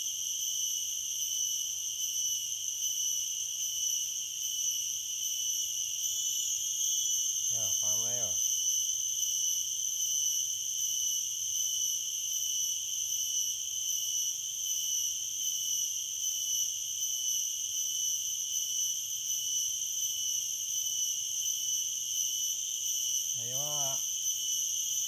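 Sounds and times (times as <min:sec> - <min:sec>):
cicadas and crickets droning: 0:00.0 - 0:25.0.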